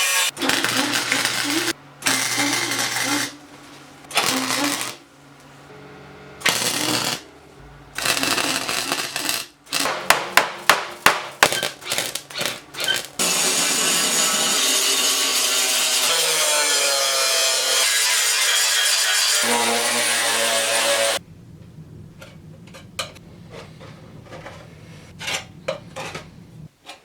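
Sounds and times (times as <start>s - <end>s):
steady power tool noise: 0.0s - 10.2s, 11.4s - 26.7s.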